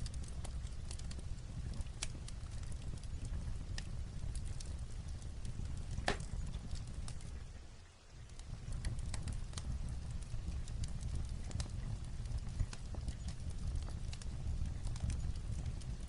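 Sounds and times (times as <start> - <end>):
light rain on a roof: 0.0 - 16.0
wood fire crackling: 0.0 - 16.0.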